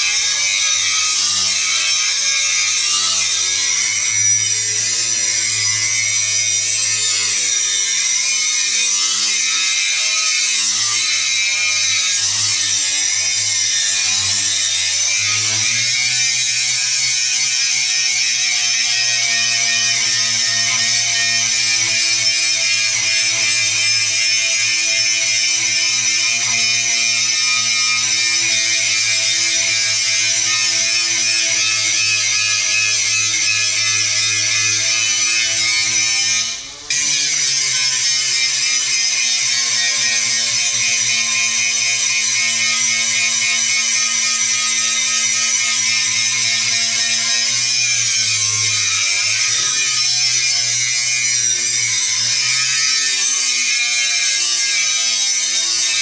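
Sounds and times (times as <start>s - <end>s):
angle grinder grinding steel: 0.0s - 56.0s.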